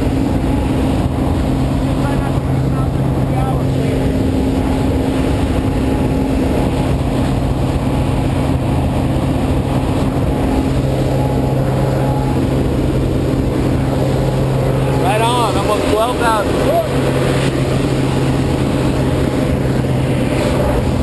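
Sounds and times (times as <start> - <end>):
light aircraft engine drone: 0.0 - 21.0.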